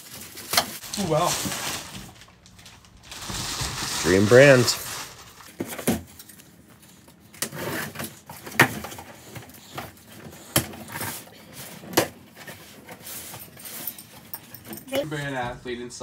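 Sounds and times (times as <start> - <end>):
tape scraping and rustling: 0.0 - 15.0.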